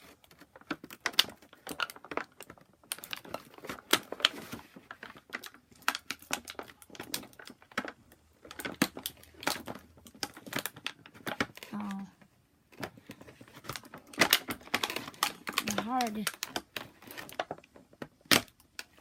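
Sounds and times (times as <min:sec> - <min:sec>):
plastic packaging crinkling and clicking: 0:00.0 - 0:19.0.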